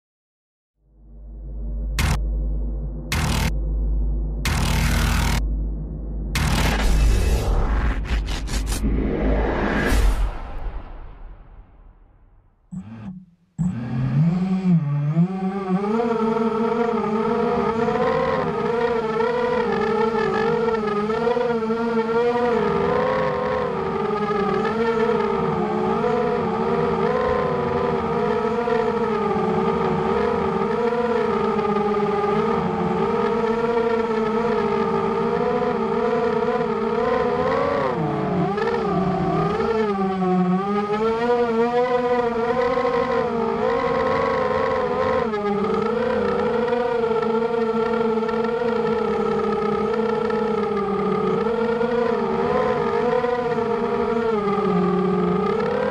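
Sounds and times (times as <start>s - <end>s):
drone motors whining: 1.5s - 11.9s, 12.6s - 55.9s.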